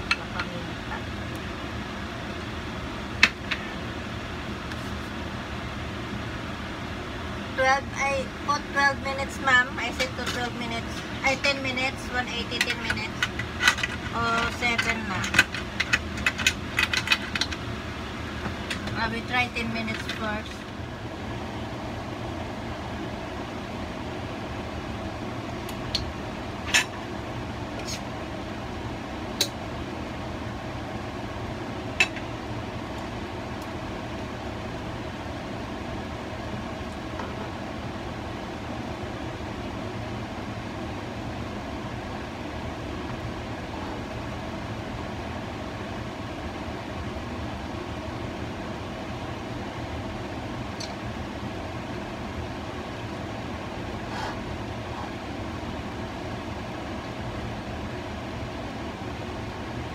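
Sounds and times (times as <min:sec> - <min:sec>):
air fryer fan hum: 0:00.0 - 0:59.9.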